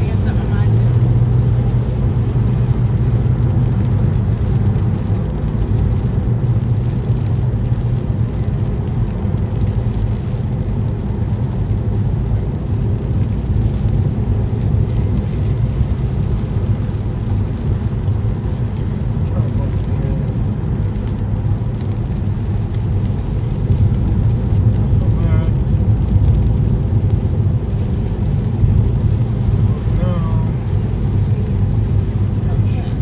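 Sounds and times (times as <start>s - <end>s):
car road noise: 0.0s - 33.0s.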